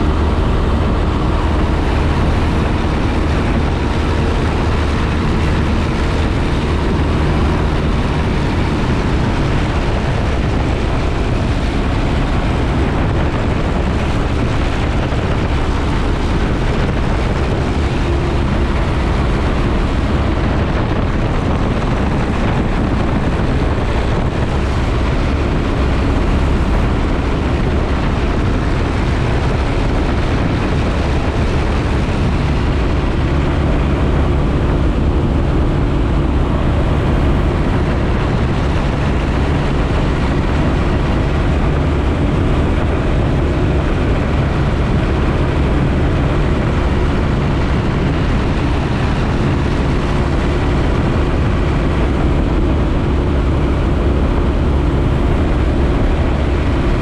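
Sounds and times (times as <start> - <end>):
light aircraft engine drone: 0.0 - 57.0
rushing air noise: 0.0 - 57.0.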